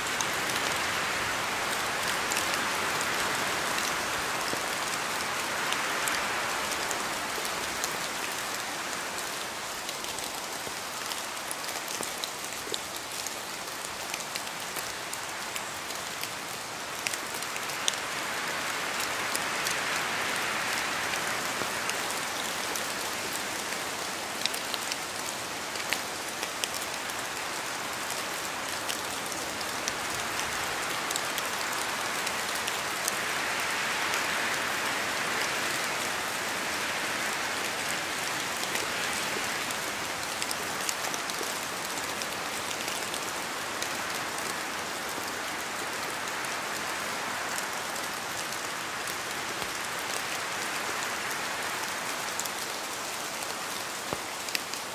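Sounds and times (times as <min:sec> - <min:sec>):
raindrops pattering: 0:00.0 - 0:54.9
steady rainfall hiss: 0:00.0 - 0:54.9.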